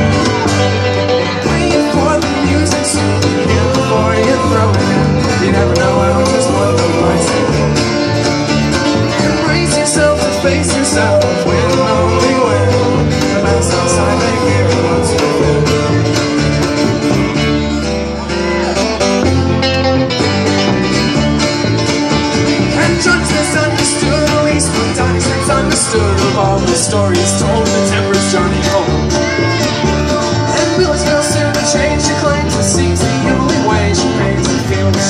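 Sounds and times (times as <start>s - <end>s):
live country-rock band playing: 0.0s - 35.0s.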